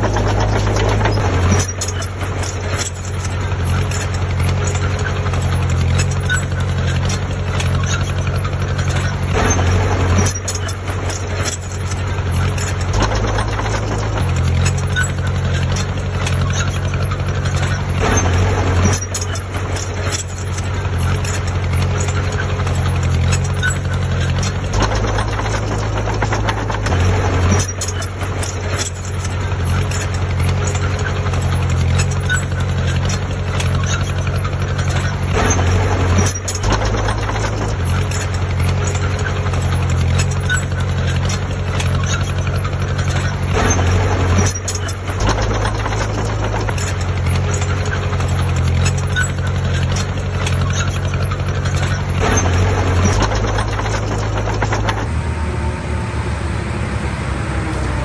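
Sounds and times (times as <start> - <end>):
rapid metallic clicking and rattling: 0.0 - 55.8
diesel engine running: 0.0 - 58.0.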